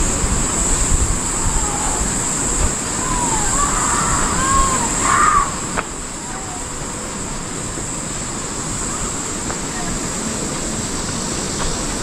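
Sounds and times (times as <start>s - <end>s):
steady high-pitched hiss: 0.0s - 12.0s
wind rumbling on microphone: 0.0s - 12.0s.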